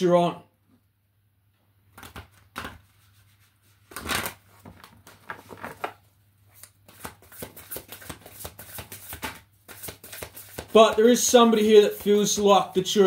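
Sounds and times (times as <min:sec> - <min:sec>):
cards being shuffled: 0:01.9 - 0:12.7.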